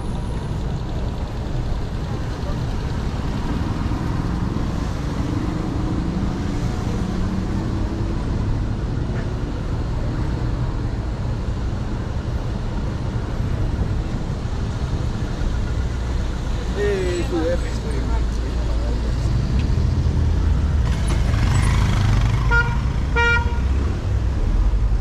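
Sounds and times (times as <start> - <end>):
engine hum: 0.0 - 25.0
traffic engine rumble: 0.0 - 25.0.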